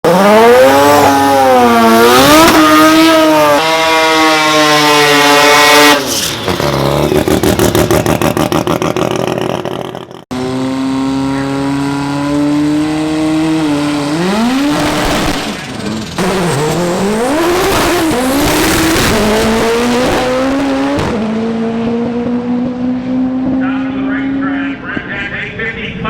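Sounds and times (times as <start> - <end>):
car engine revving hard: 0.0 - 24.8.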